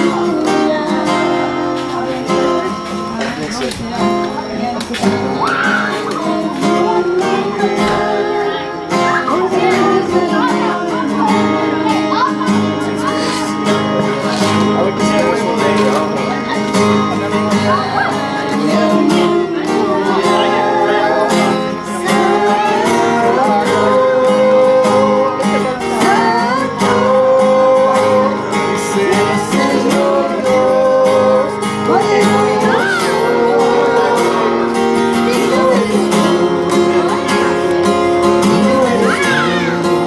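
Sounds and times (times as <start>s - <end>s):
acoustic guitar strumming: 0.0s - 40.0s
person singing: 0.0s - 40.0s.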